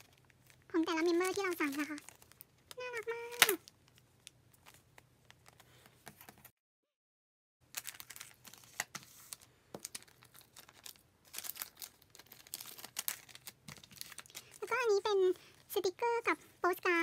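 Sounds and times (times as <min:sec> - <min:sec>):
plastic bags crinkling: 0:00.0 - 0:05.6, 0:07.7 - 0:15.7.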